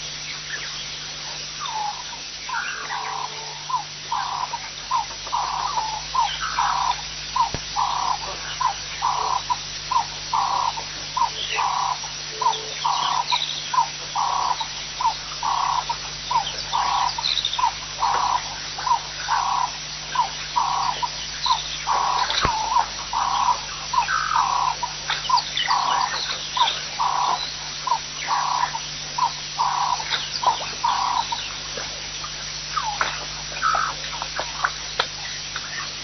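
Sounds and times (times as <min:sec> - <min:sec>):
faint steady hum: 0:00.0 - 0:36.0
wild animal calling: 0:01.7 - 0:31.6.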